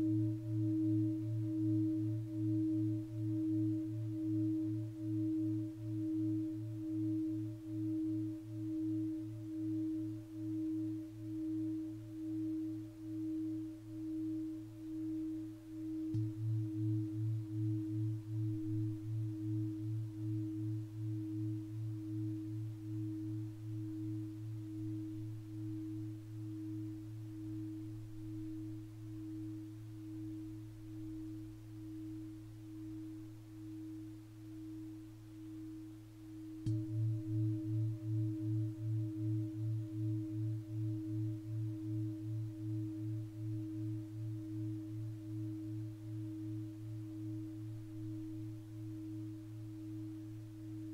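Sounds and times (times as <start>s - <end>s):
bell ringing sustained tone: 0.0s - 50.9s.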